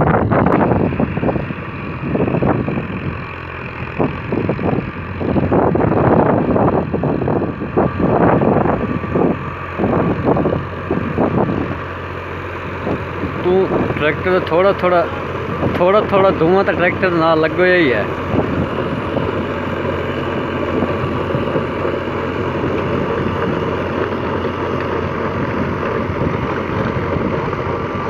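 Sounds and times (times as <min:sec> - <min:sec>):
tractor diesel engine running: 0:00.0 - 0:28.0
wind buffeting microphone: 0:00.0 - 0:28.0.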